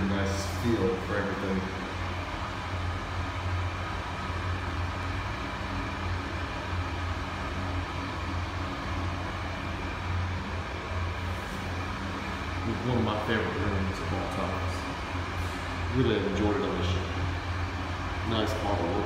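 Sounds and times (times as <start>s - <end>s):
low mechanical hum: 0.0s - 19.0s
ventilation rushing hiss: 0.0s - 19.0s.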